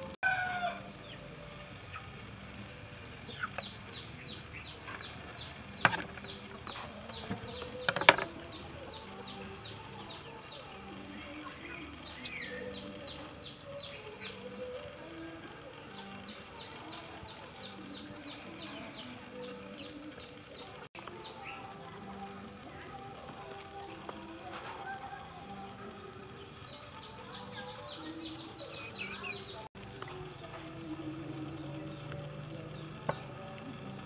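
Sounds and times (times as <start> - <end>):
chickens clucking: 0.0 - 34.0
chicks peeping: 0.0 - 34.0.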